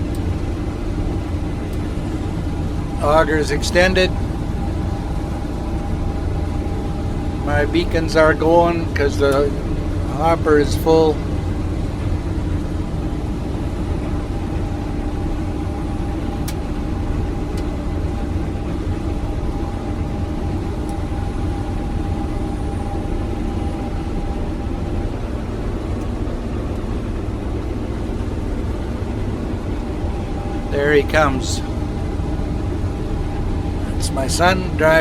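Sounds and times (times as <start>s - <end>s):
combine harvester droning: 0.0s - 35.0s.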